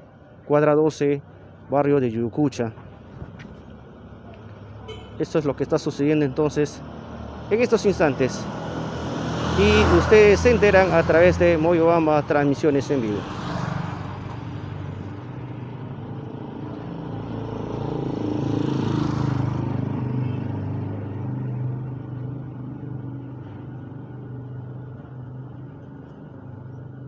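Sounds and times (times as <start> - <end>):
vehicle engine passing: 3.2 - 27.0.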